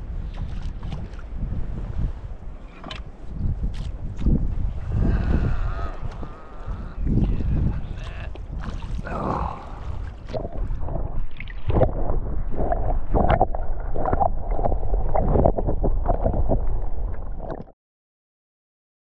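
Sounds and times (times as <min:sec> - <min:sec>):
underwater sloshing rumble: 0:00.0 - 0:17.7.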